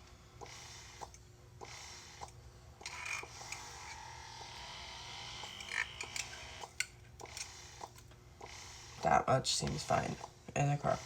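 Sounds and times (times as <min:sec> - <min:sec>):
breast pump clicking: 0:00.4 - 0:04.5, 0:05.5 - 0:11.0.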